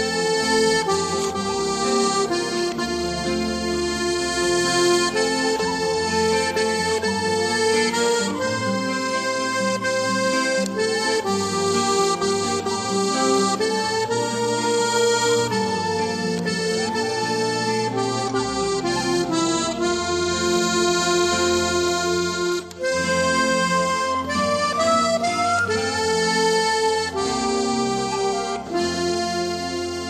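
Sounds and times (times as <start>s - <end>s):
instrumental background music: 0.0s - 30.0s.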